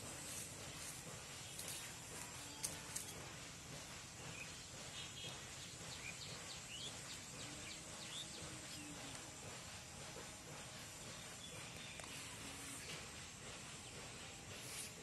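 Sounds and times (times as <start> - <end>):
birds chirping: 0.0 - 14.7
steady outdoor hiss: 0.0 - 15.0.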